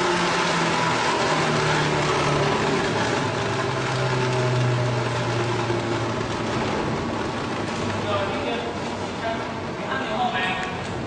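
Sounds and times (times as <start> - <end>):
foam shredder motor hum: 0.0 - 9.8.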